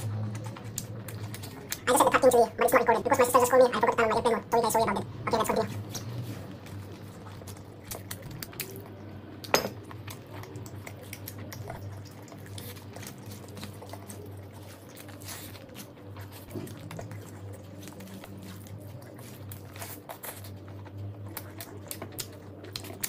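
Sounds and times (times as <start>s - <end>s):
wet chewing and lip smacking: 0.0s - 9.0s, 9.8s - 23.0s
faint steady hum: 0.0s - 23.0s
food squishing by hand: 0.0s - 23.0s.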